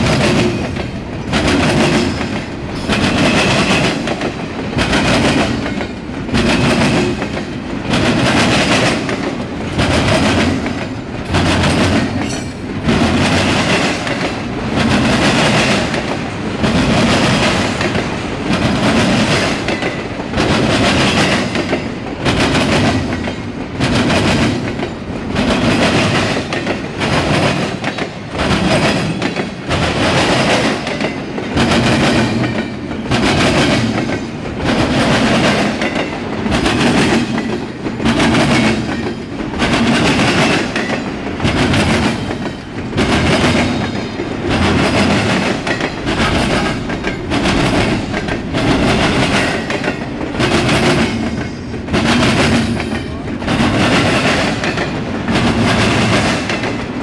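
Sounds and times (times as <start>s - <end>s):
train wheels rumbling and clacking: 0.0s - 57.0s.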